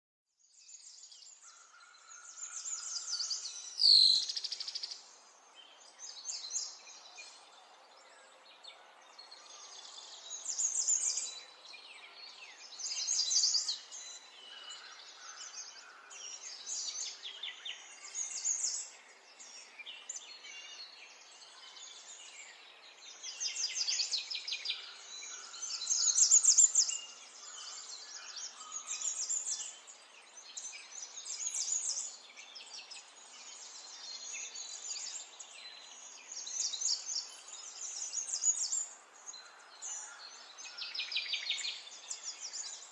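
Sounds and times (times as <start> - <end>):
birds chirping and trilling: 0.4 - 42.9.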